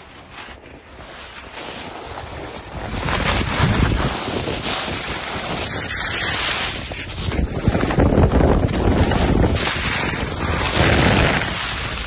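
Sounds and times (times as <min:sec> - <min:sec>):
skis scraping over snow: 0:00.0 - 0:12.0
wind buffeting microphone: 0:02.1 - 0:12.0.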